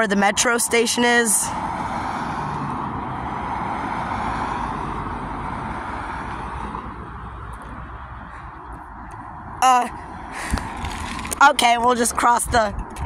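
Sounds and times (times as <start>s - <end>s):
vehicle passing on street: 0.0s - 13.0s.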